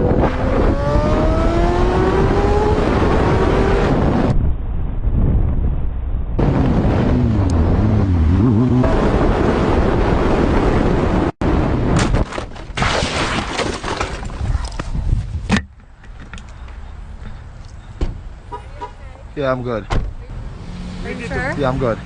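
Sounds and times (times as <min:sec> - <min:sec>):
vehicle engine rumbling: 0:00.0 - 0:12.7, 0:14.2 - 0:22.0.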